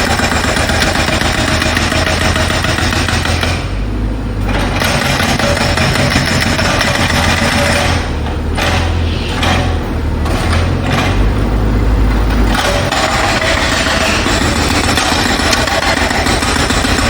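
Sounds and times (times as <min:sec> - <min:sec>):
jackhammer hammering: 0:00.0 - 0:17.0
low engine drone: 0:00.0 - 0:17.0.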